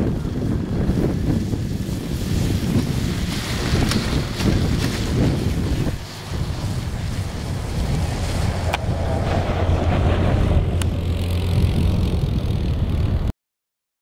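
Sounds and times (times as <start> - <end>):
snowmobile running over snow: 0.0 - 13.3
wind rumble on microphone: 0.0 - 13.3.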